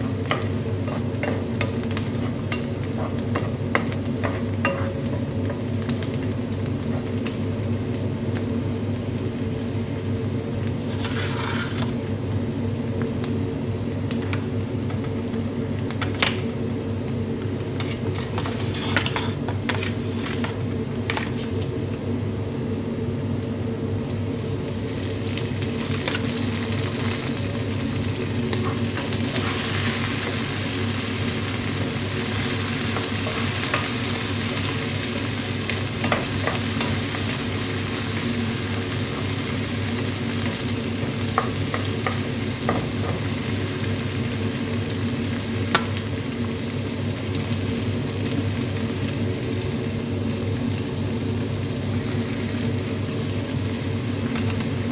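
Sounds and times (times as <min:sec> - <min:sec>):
vegetables sizzling in oil: 0:00.0 - 0:54.9.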